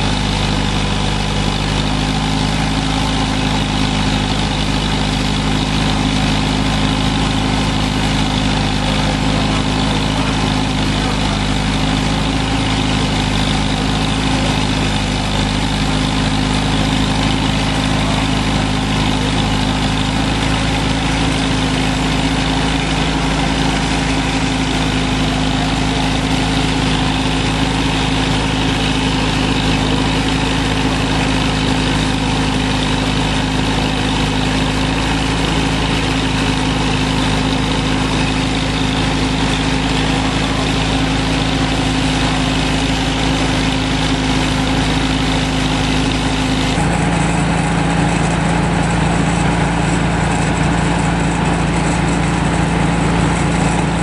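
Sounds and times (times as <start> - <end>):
tractor engine running steadily: 0.0 - 54.0.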